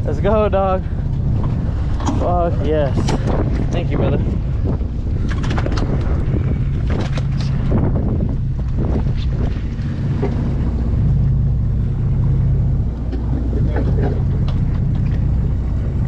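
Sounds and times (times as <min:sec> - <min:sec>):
boat diesel engine humming: 0:00.0 - 0:16.0
wind buffeting microphone: 0:00.0 - 0:16.0.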